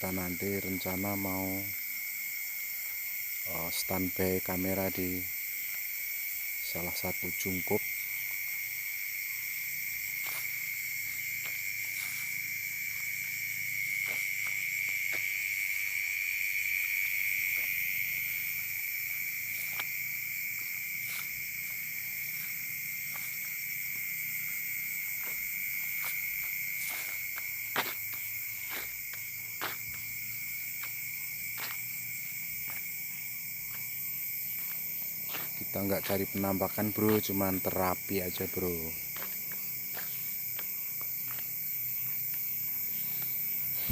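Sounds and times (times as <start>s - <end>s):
crickets and insects trilling: 0.0s - 43.9s.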